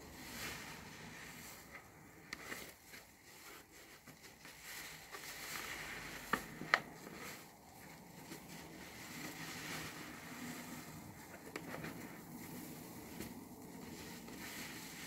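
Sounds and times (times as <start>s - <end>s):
sponge squishing in soap lather: 0.0s - 15.0s.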